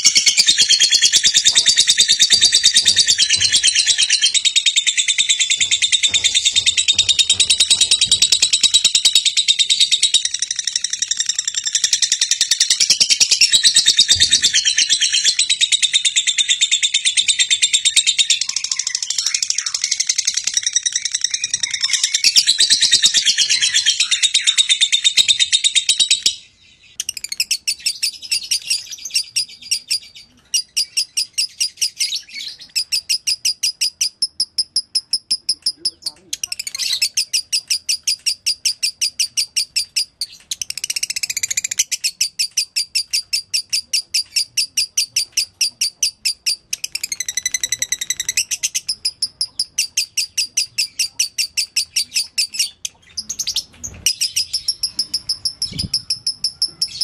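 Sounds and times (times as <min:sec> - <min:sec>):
lovebird chattering song: 0:00.0 - 0:57.0.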